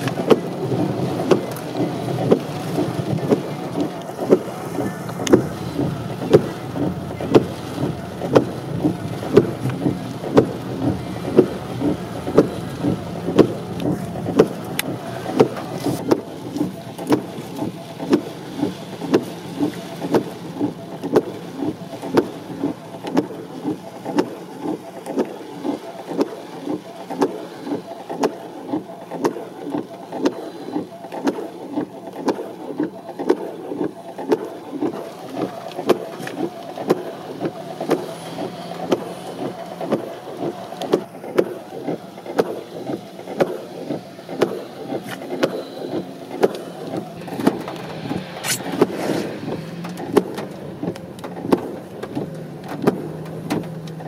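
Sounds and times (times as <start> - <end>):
steady car hum: 0.0 - 54.0
windshield wipers sweeping: 0.0 - 54.0.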